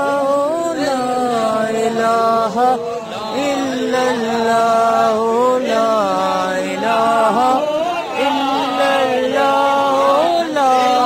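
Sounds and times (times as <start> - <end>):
person chanting: 0.0 - 11.0.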